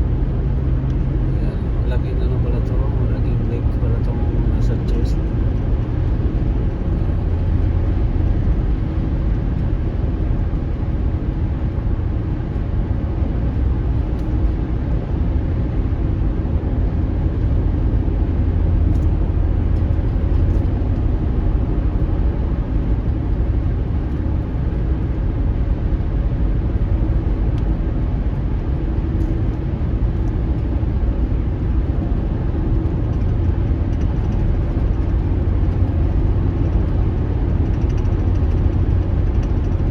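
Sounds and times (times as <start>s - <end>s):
car driving rumble from inside: 0.0s - 39.9s.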